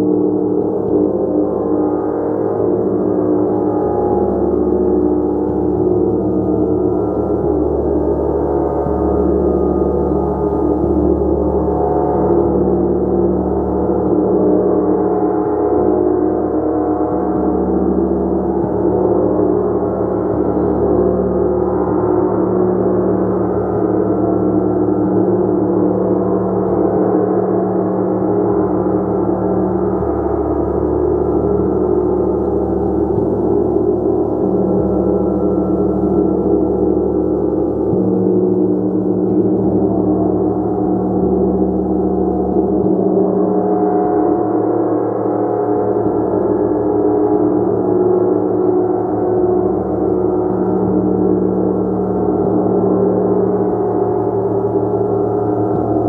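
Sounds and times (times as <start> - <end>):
gong played continuously: 0.0 - 56.0.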